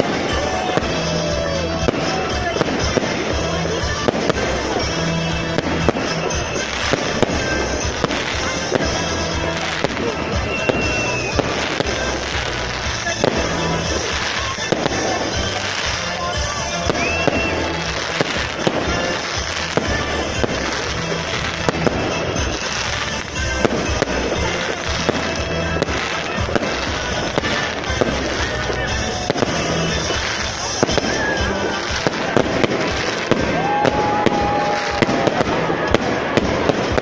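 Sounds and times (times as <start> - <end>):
fireworks bursting with bangs: 0.0 - 37.0
fireworks crackling: 0.0 - 37.0.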